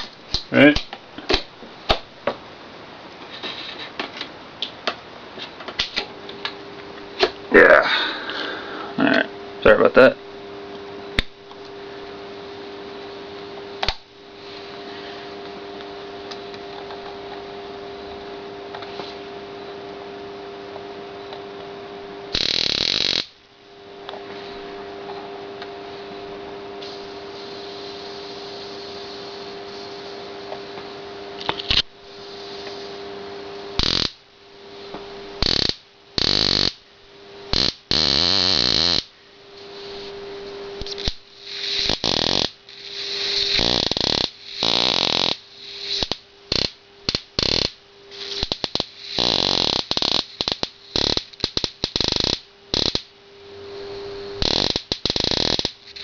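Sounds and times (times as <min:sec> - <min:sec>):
cracking electric arcs: 0:00.0 - 0:02.4, 0:03.2 - 0:11.8, 0:13.5 - 0:19.3, 0:21.3 - 0:56.0
electrical hum: 0:00.0 - 0:56.0.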